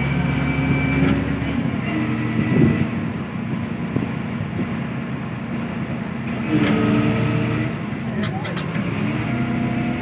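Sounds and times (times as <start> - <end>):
crane machinery droning: 0.0 - 10.0.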